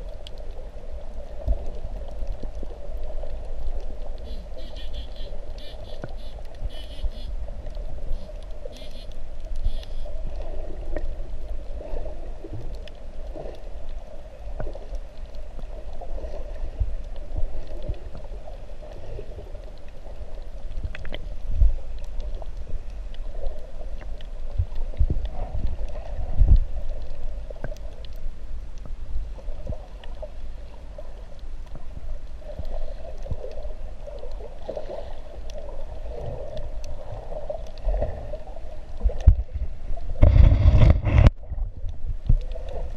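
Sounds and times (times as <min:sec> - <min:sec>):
muffled underwater water rumble: 0:00.0 - 0:42.9.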